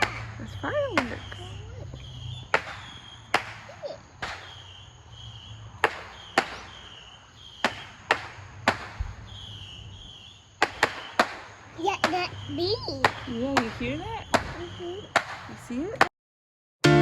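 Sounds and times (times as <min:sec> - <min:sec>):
distant fireworks bangs: 0:00.0 - 0:16.1.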